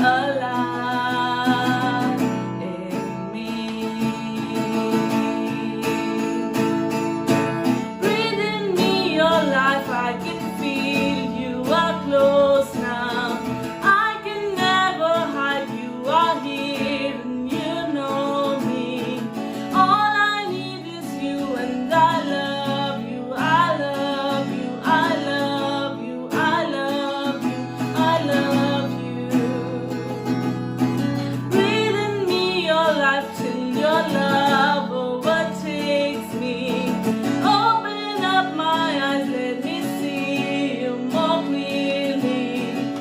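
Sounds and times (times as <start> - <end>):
person singing: 0.0 - 6.8, 7.4 - 30.3, 31.1 - 43.0
acoustic guitar chords: 0.0 - 43.0.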